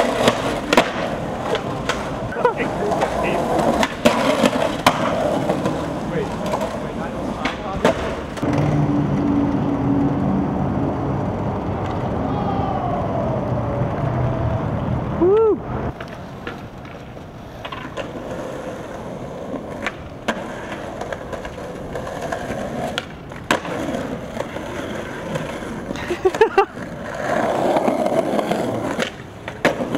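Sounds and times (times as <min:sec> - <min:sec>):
skateboard wheels squealing: 0:00.0 - 0:09.6, 0:15.2 - 0:29.9
skateboard wheels clacking on joints: 0:00.0 - 0:10.2, 0:15.9 - 0:29.9
skateboard wheels rolling: 0:00.0 - 0:29.9.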